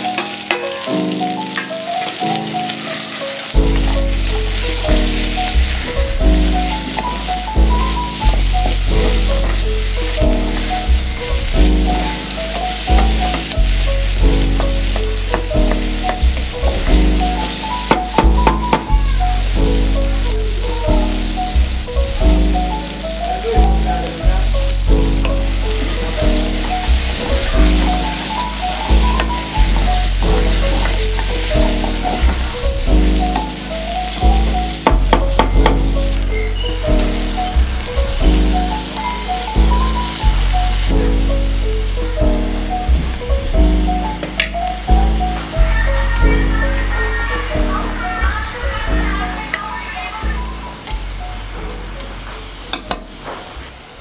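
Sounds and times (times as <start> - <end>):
jazz-style beat music: 0.0 - 53.5
wooden spoon stirring: 0.0 - 53.6
food sizzling in oil: 0.0 - 54.0.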